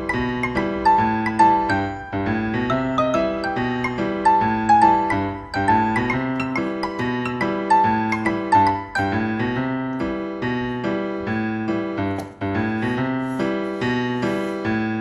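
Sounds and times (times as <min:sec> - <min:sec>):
electric piano music: 0:00.0 - 0:15.0.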